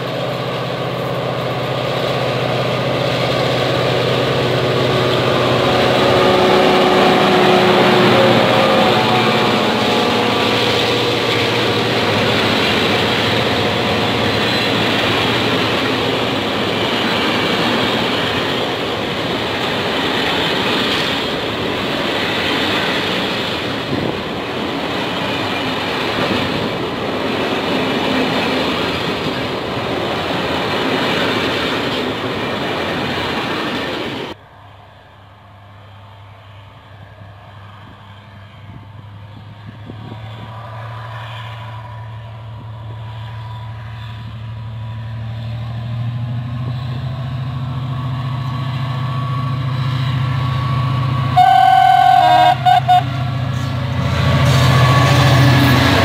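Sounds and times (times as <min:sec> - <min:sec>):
train passing: 0:00.0 - 0:56.0.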